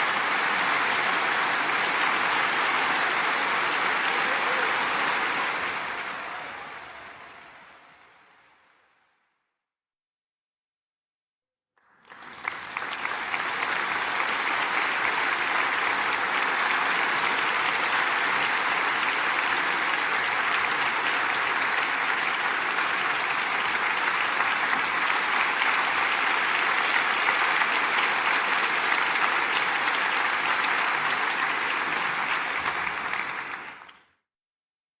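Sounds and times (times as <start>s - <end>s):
crowd applauding: 0.0s - 8.6s, 11.8s - 34.2s.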